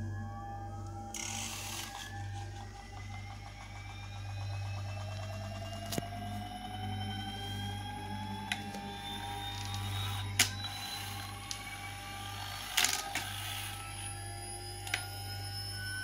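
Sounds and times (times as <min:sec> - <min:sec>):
gyro rotor whining: 0:00.0 - 0:16.0
low steady hum: 0:00.0 - 0:16.0.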